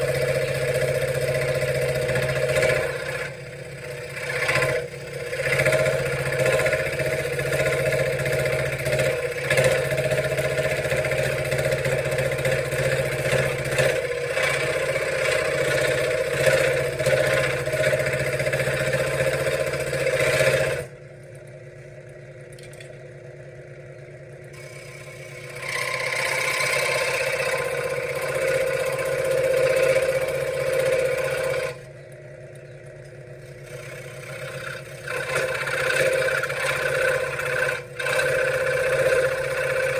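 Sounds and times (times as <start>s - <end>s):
scroll saw cutting wood: 0.0s - 21.0s, 24.6s - 31.9s, 33.4s - 39.9s.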